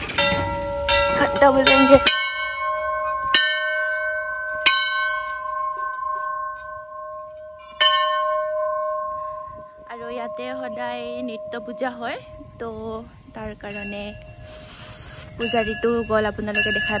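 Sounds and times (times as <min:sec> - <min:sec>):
temple bell ringing: 0:00.0 - 0:17.0.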